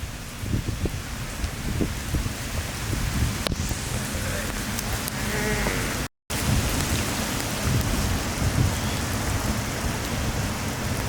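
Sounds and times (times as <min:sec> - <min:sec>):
low rumble of thunder: 0:00.0 - 0:11.0
steady rain: 0:00.0 - 0:11.0.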